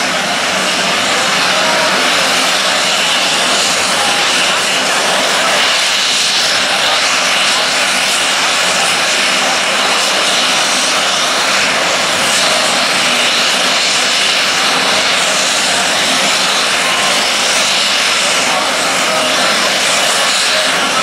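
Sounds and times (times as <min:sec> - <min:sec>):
turbine engines idling: 0:00.0 - 0:21.0.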